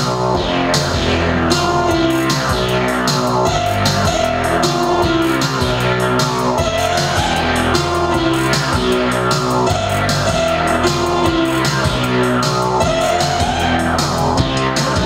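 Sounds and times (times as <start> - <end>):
steady beat: 0.0 - 15.0
synthesizer notes and chords: 0.0 - 15.0.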